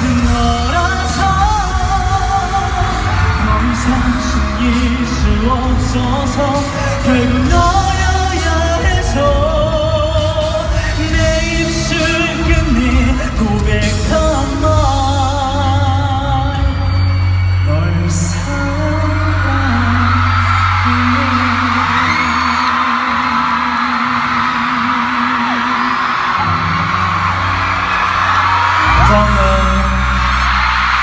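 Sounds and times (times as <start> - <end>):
pop backing track with heavy bass: 0.0 - 25.7, 26.3 - 31.0
man singing into a microphone: 0.0 - 27.0, 28.7 - 31.0.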